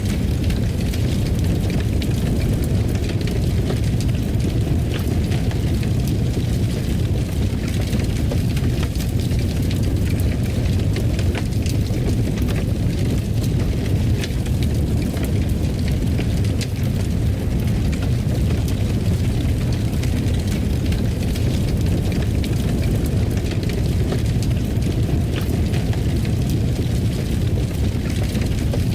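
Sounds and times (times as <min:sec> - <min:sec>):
fire crackling and popping: 0:00.0 - 0:28.9
low rumble of flames: 0:00.0 - 0:28.9.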